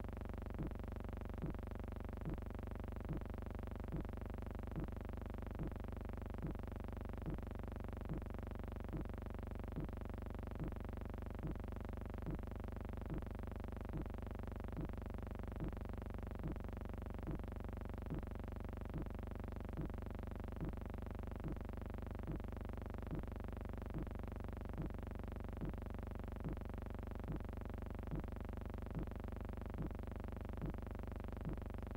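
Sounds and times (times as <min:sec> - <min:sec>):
low hum: 0:00.0 - 0:31.9
soft regular pulse: 0:00.0 - 0:31.9.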